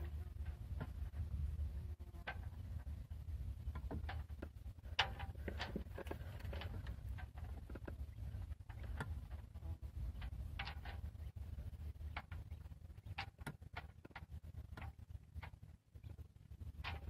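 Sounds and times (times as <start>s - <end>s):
hull and rigging clicks and knocks: 0.0s - 1.6s, 2.2s - 17.0s
low steady rumble: 0.0s - 17.0s.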